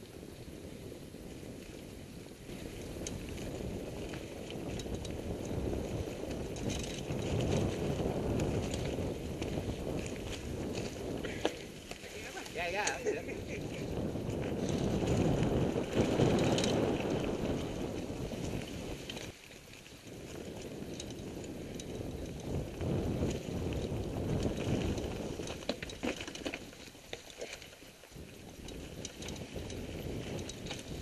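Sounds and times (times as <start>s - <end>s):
bike clicking and rattling: 0.0s - 31.0s
bike tyres on dirt and leaves: 0.0s - 31.0s
wind on microphone: 0.0s - 31.0s.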